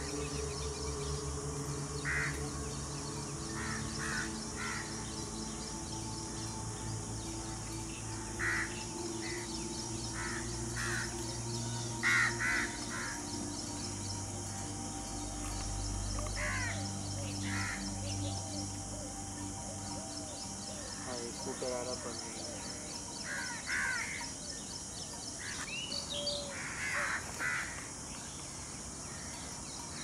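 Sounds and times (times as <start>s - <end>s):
steady low drone: 0.0s - 24.7s
steady high hiss: 0.0s - 30.0s.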